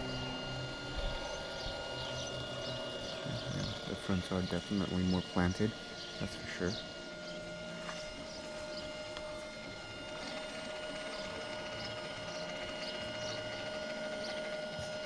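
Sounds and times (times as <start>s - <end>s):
electric motor whine: 0.0s - 15.0s
gear grinding: 0.0s - 15.0s.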